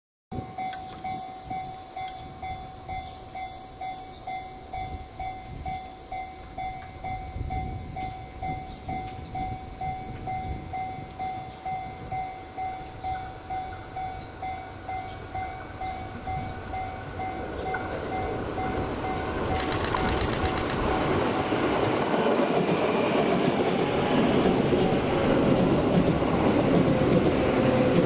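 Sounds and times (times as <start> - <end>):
train low rumble: 0.4 - 28.0.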